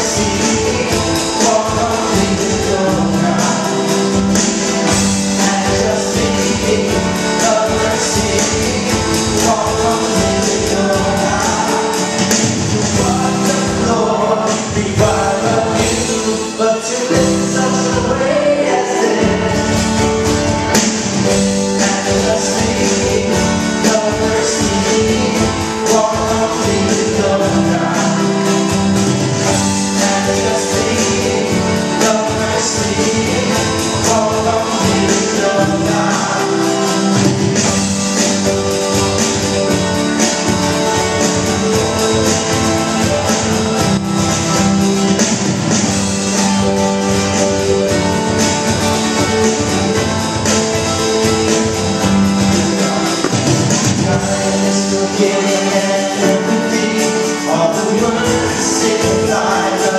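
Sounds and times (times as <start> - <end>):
acoustic guitar: 0.0 - 59.9
crowd singing along: 0.0 - 59.9
drum kit beat: 0.0 - 59.9
singers on microphones: 0.0 - 59.9.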